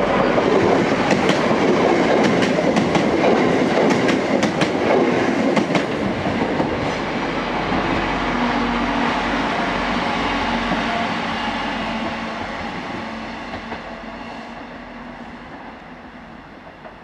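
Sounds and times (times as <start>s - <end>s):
train engine hum: 0.0s - 17.0s.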